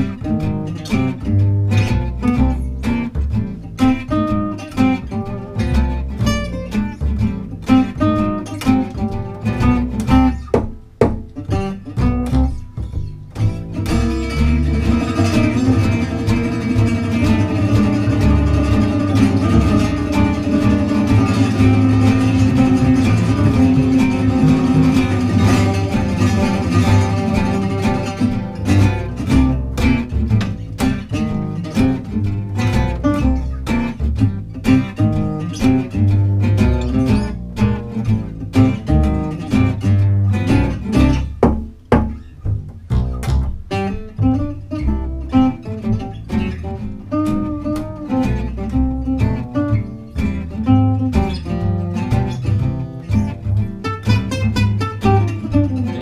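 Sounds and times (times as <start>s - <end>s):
acoustic guitars and upright bass: 0.0s - 56.0s.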